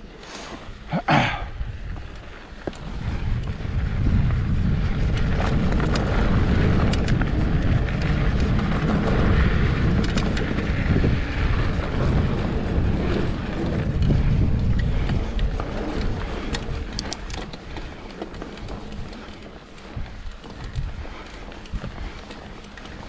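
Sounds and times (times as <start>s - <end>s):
tyres on dirt trail: 0.0s - 23.0s
wind rumbling on microphone: 0.0s - 23.0s
bike frame and chain rattling: 1.5s - 23.0s.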